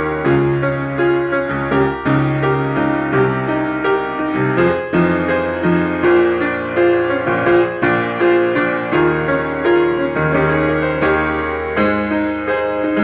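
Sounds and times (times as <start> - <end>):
piano accompaniment: 0.0 - 13.0.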